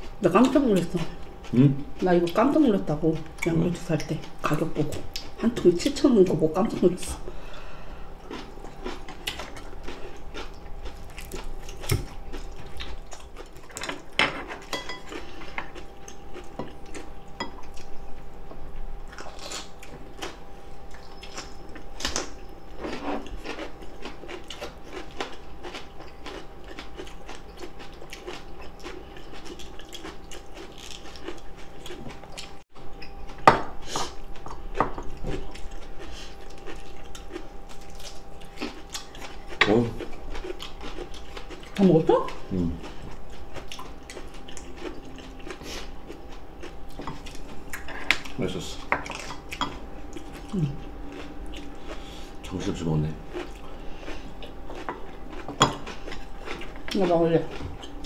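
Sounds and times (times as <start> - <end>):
faint steady hum: 0.0 - 58.0
chewing and biting food: 8.2 - 18.1, 19.0 - 33.4, 34.0 - 58.0.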